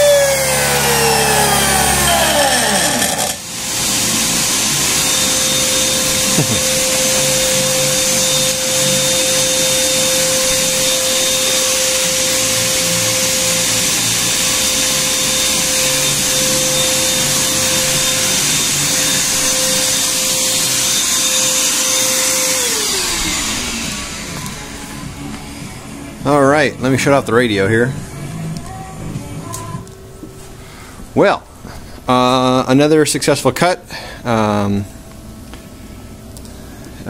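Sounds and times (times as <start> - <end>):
shop vacuum running with whine: 0.0 - 30.4.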